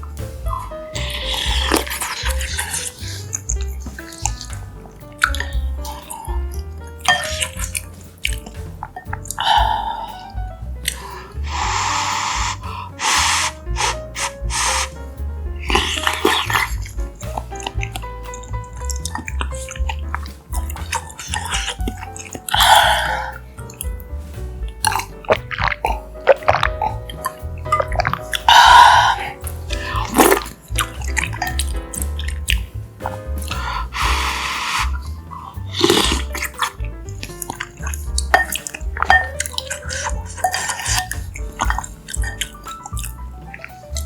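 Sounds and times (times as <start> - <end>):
background music: 0.0 - 44.0
chewing and wet mouth noises: 0.4 - 4.5, 5.1 - 6.3, 6.9 - 14.9, 15.7 - 23.9, 24.8 - 44.0.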